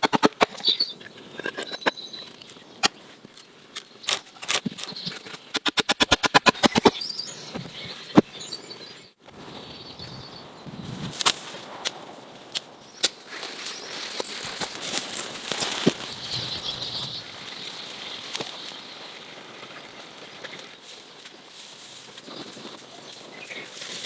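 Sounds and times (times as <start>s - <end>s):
birds chirping: 0.0s - 11.2s, 12.2s - 21.5s, 22.1s - 24.0s.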